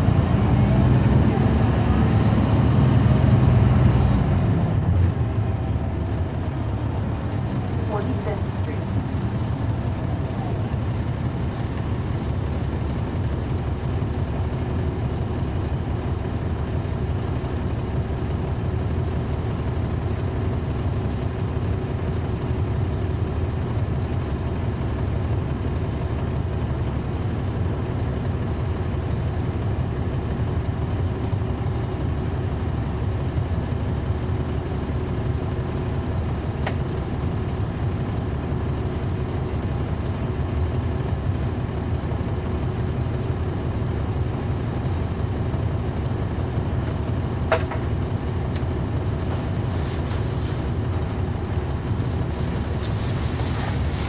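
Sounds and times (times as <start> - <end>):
bus diesel engine rumbling: 0.0 - 54.0.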